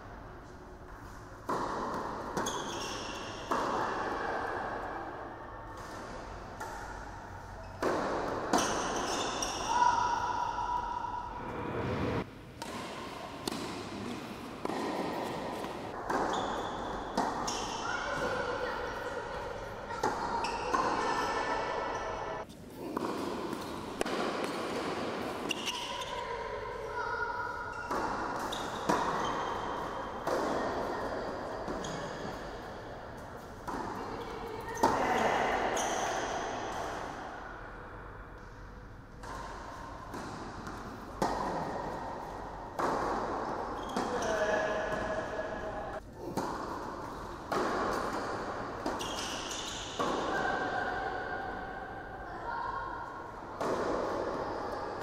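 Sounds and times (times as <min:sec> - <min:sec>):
racket hitting tennis ball: 0:01.0 - 0:04.9, 0:05.8 - 0:10.8, 0:11.7 - 0:21.4, 0:22.8 - 0:26.2, 0:27.7 - 0:37.2, 0:39.2 - 0:45.6, 0:46.2 - 0:51.7, 0:53.6 - 0:55.0.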